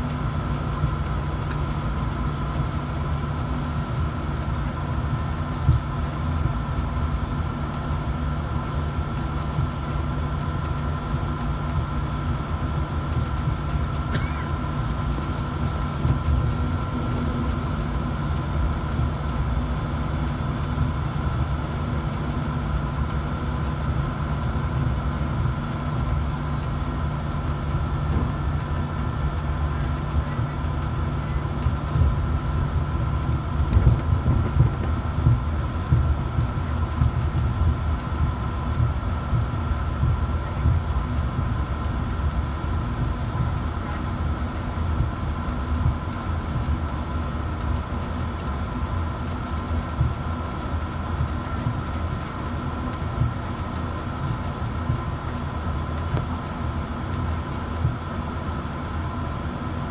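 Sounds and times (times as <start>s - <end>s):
constant high whine: 0.0s - 59.9s
jet engine low rumble: 0.0s - 59.9s.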